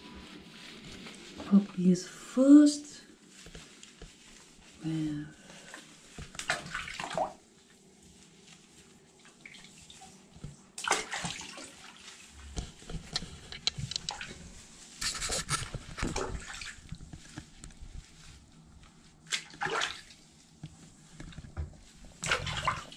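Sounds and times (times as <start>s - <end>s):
water sloshing in a bathtub: 0.0s - 22.9s.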